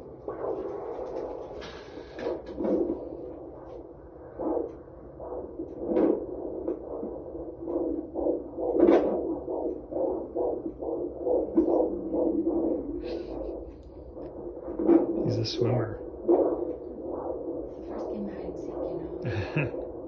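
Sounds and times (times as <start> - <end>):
fetal heartbeat through doppler speaker: 0.0 - 20.0.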